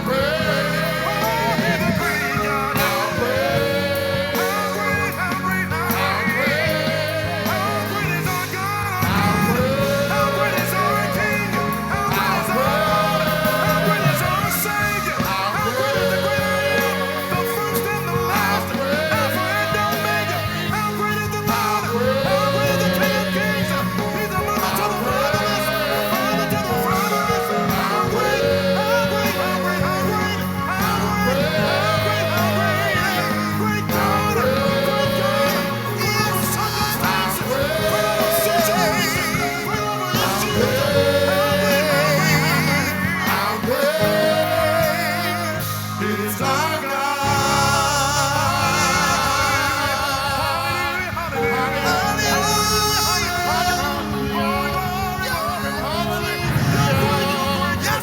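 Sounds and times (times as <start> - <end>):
band playing sustained chords: 0.0 - 58.0
person singing worship song: 0.0 - 58.0.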